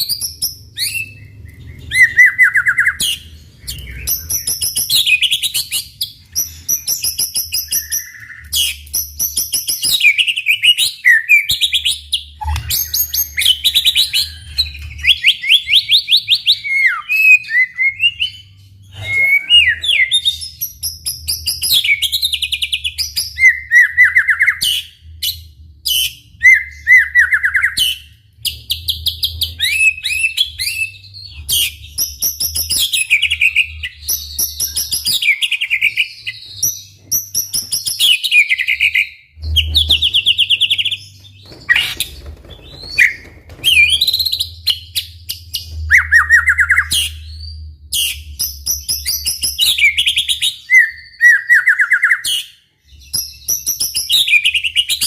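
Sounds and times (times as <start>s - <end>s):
bird singing varied song: 0.0s - 55.0s.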